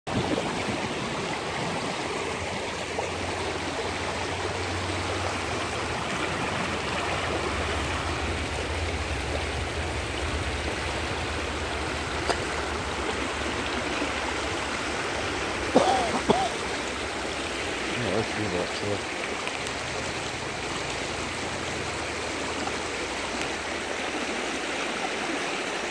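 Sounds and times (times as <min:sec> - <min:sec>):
creek rushing over stones: 0:00.1 - 0:25.9.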